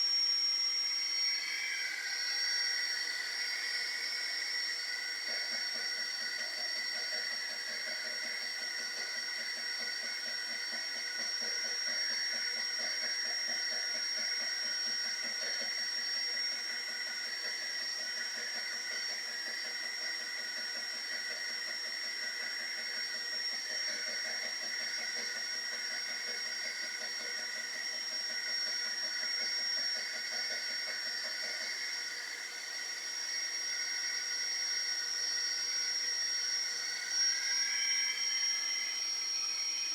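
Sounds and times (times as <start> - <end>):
printer whining and hissing: 0.0 - 39.9.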